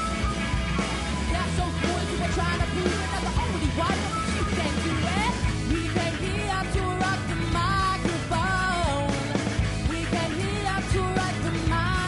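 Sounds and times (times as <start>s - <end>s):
band playing rock music: 0.0s - 12.0s.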